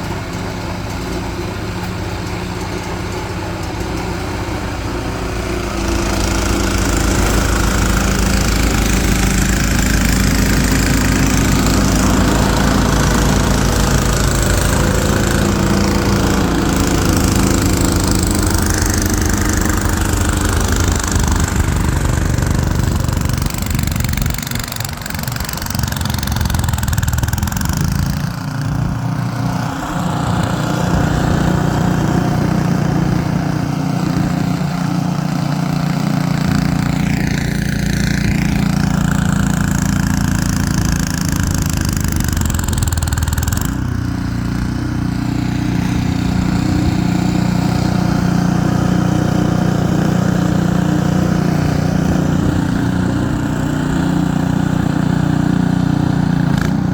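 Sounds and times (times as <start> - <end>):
snowblower engine running: 0.0 - 56.9.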